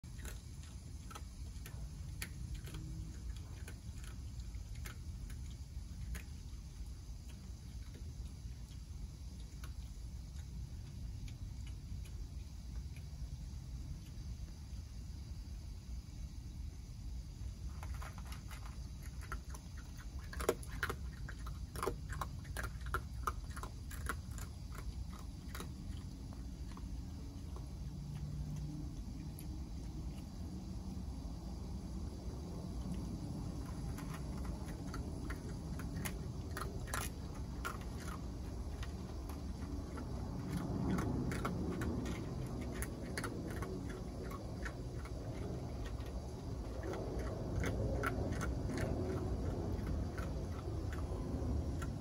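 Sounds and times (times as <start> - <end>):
animal crunching dry food: 0.0 - 14.5, 17.4 - 52.0
low hum: 0.0 - 52.0
steady low rumble: 0.0 - 52.0.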